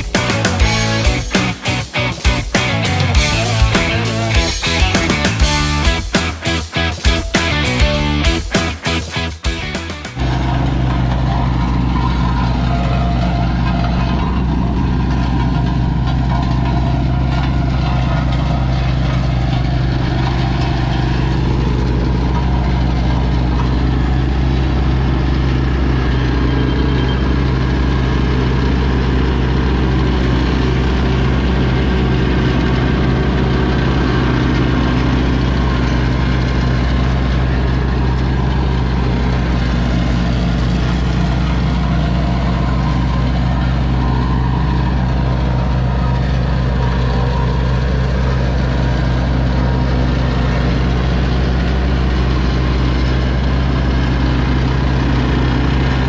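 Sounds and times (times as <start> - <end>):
roller compactor engine drone: 0.0 - 56.0.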